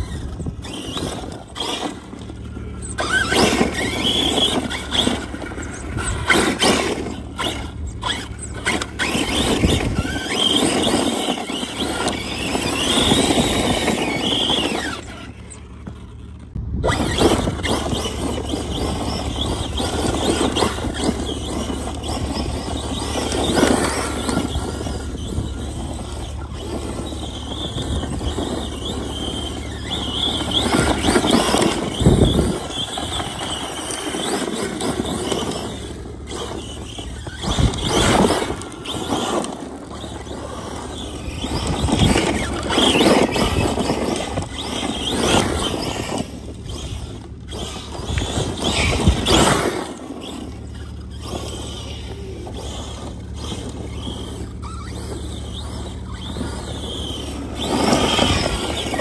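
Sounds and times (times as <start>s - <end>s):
electric motor whining: 0.0s - 59.0s
tyres spinning spraying dirt: 0.0s - 59.0s.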